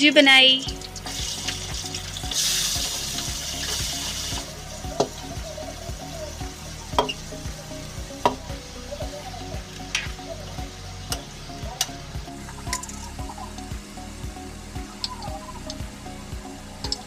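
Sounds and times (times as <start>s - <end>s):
hot oil sizzling: 0.2s - 17.0s.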